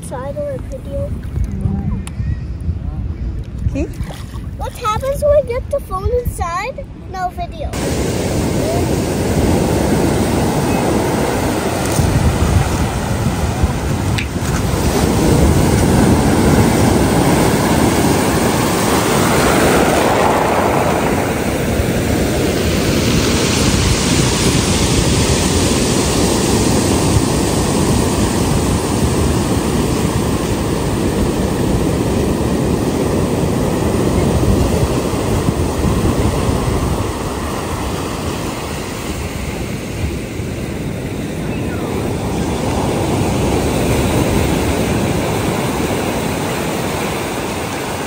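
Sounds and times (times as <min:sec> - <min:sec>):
surf breaking on pebble beach: 0:07.8 - 0:48.0.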